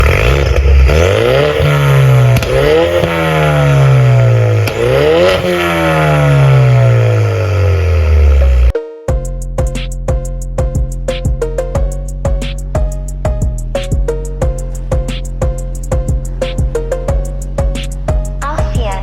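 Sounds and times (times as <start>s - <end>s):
car engine revving: 0.0s - 8.8s, 11.8s - 18.7s.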